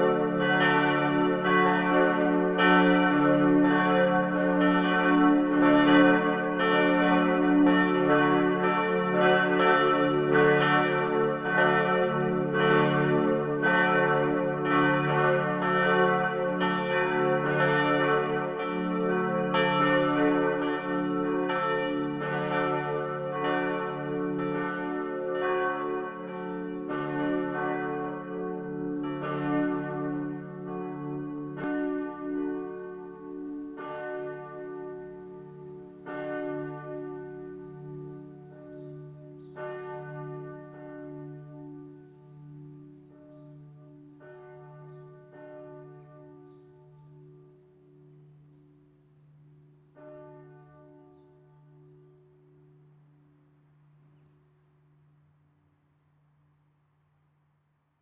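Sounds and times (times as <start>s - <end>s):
church bells pealing: 0.0s - 53.0s.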